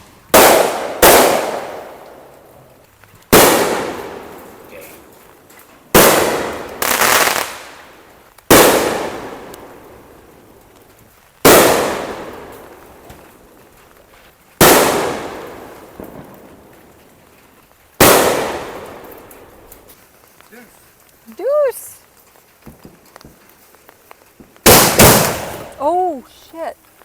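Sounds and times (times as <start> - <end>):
fireworks bangs echoing: 0.0 - 13.8, 14.6 - 17.3, 18.0 - 19.9, 22.6 - 26.0.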